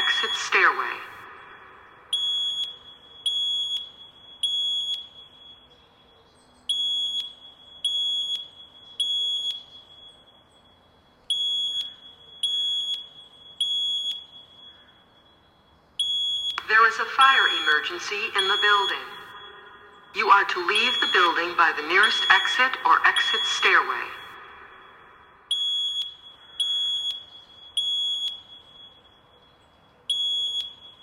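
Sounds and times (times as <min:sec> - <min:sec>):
fire alarm beeping: 0:00.0 - 0:31.0.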